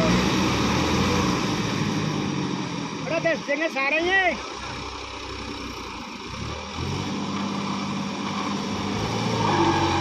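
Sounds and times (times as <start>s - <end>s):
diesel tractor engines running hard: 0.0s - 10.0s.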